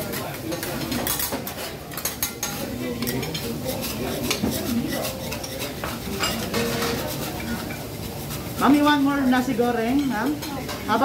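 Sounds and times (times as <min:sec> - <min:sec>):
metal spatulas scraping griddle: 0:00.0 - 0:10.8.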